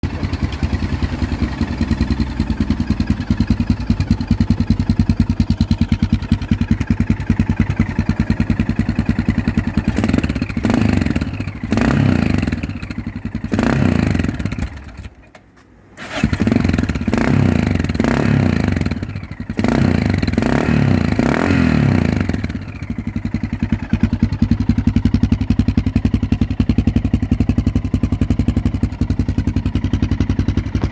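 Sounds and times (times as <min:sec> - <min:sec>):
motorcycle engine idling and blipping: 0:00.0 - 0:15.4, 0:16.0 - 0:30.9.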